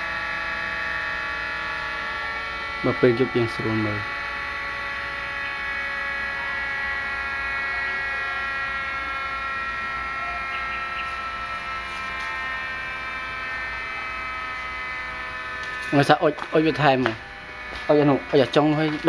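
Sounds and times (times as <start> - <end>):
torch hum with high tones: 0.0 - 19.0.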